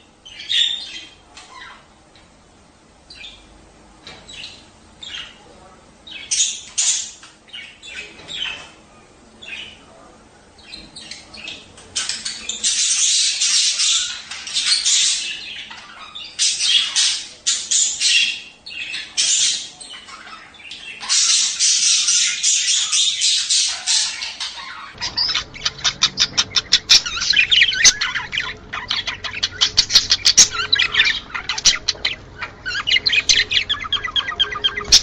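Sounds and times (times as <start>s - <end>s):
budgerigars chattering: 0.2s - 1.9s, 6.1s - 8.8s, 10.6s - 35.0s.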